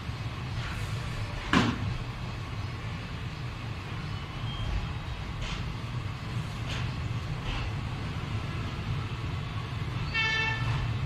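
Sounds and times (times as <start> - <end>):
train coaches rumbling past: 0.0 - 11.0.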